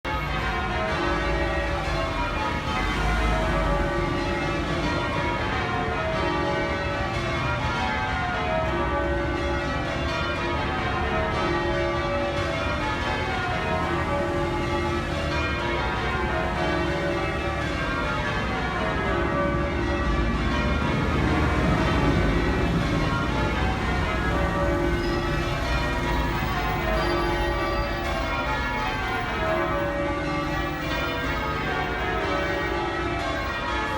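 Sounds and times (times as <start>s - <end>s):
church bells change ringing: 0.1s - 33.9s.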